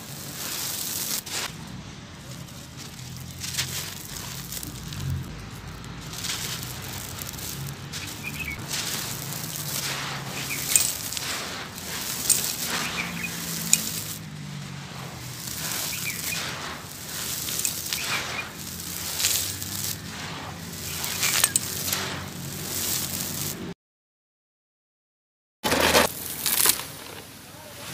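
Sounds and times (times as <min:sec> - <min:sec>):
sand crunching by hand: 0:00.0 - 0:23.7, 0:25.6 - 0:27.9.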